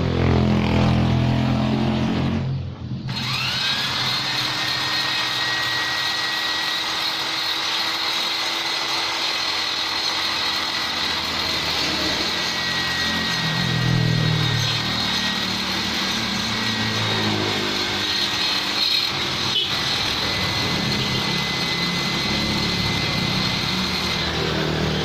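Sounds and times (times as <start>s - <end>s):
rotary grinder whining: 3.0s - 25.0s
grinding hiss: 3.1s - 25.0s.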